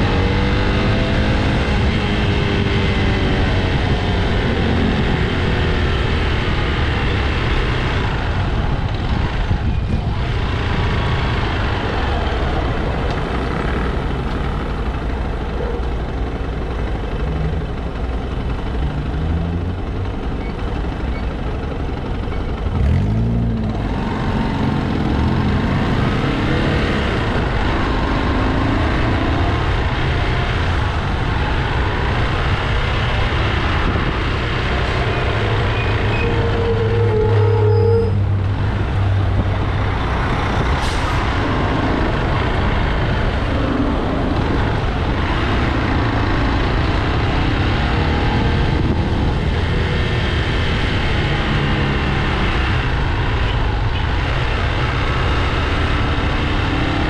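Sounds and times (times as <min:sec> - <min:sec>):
road noise: 0:00.0 - 0:57.0
vehicle engine drone: 0:00.0 - 0:57.0.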